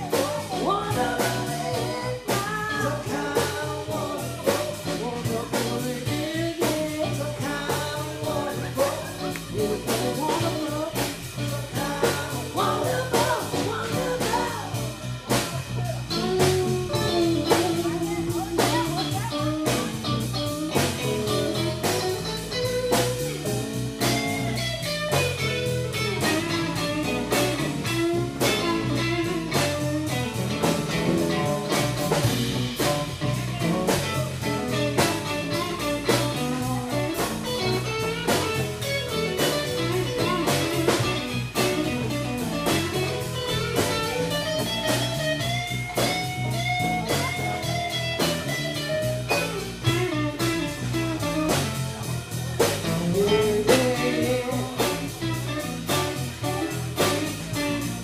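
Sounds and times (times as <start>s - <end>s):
bass: 0.0s - 58.0s
drum kit beat: 0.0s - 58.0s
electric guitar lines: 0.0s - 58.0s.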